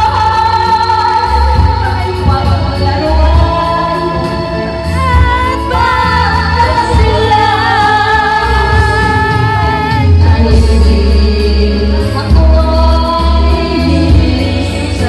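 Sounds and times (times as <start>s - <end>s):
music backing track with bass: 0.0s - 15.0s
woman singing into a microphone: 0.0s - 15.0s.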